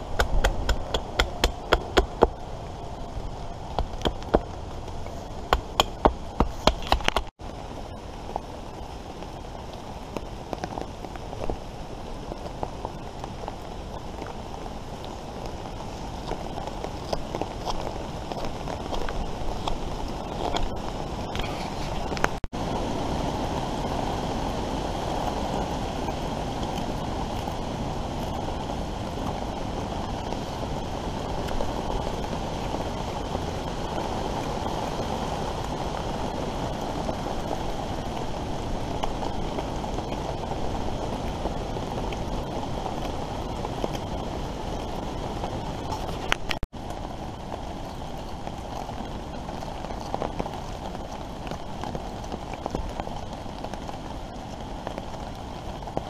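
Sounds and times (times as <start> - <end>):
wind and rain: 0.0 - 56.0
wind buffeting microphone: 0.0 - 56.0.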